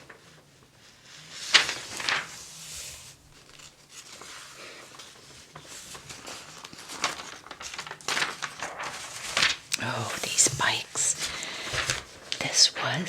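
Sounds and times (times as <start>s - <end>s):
paper pages rustling: 0.0s - 12.8s.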